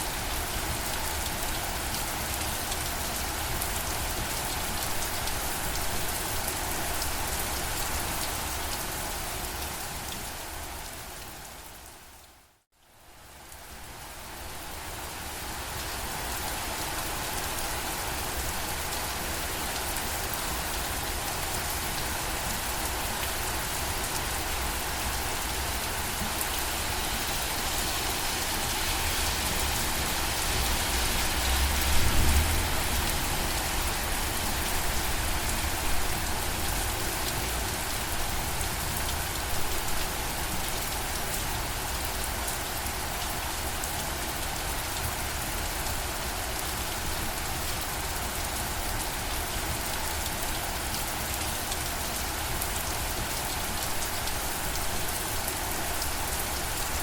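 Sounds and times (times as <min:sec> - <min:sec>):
louder raindrops: 0:00.0 - 0:57.0
steady rain falling: 0:00.0 - 0:57.0.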